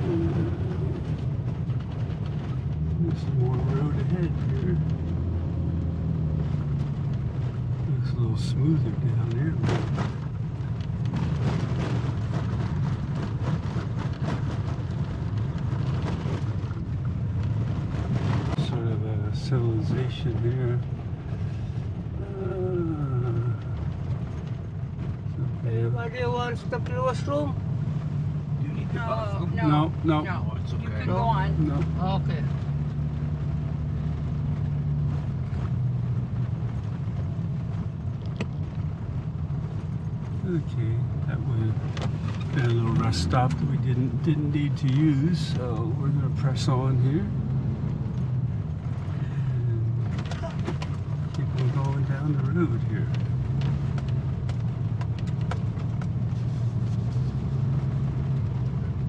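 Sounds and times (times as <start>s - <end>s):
car road rumble: 0.0s - 59.0s
gravel clicking under tyres: 0.0s - 59.0s.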